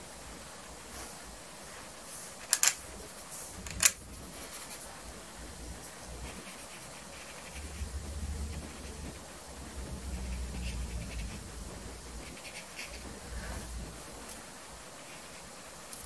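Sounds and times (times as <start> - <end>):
faint room hiss: 0.0 - 16.0.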